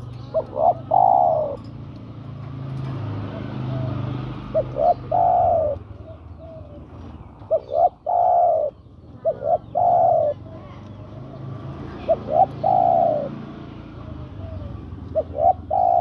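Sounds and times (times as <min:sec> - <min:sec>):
dove cooing: 0:00.0 - 0:01.9, 0:02.8 - 0:16.0.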